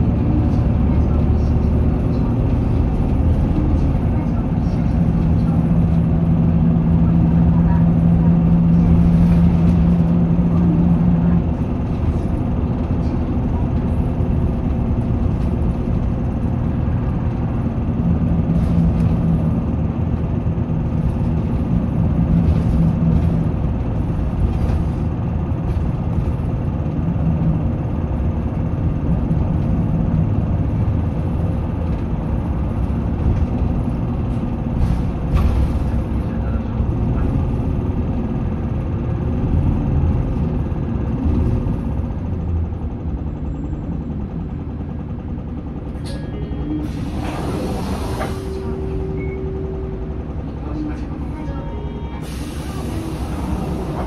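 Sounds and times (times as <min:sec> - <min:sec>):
bus diesel engine drone: 0:00.0 - 0:54.0
road rumble: 0:00.0 - 0:54.0.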